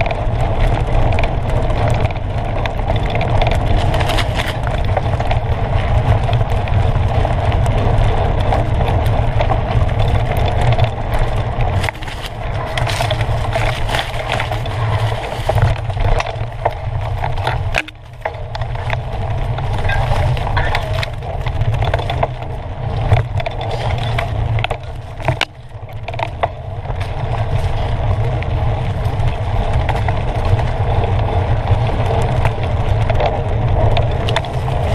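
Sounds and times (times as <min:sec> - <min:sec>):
bike rattling clicks and knocks: 0:00.0 - 0:34.9
tyres crunching over dirt: 0:00.0 - 0:34.9
wind rumbling on microphone: 0:00.0 - 0:34.9.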